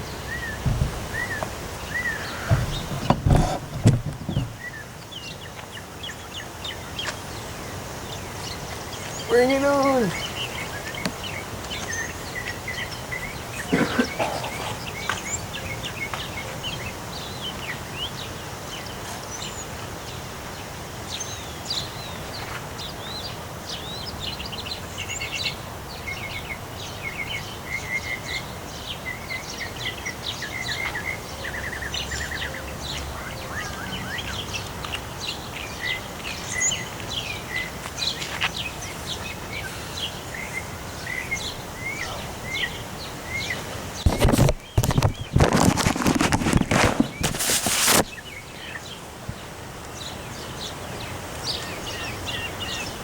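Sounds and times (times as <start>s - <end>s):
birds chirping and trilling: 0.0s - 7.2s, 8.0s - 19.7s, 29.4s - 53.0s.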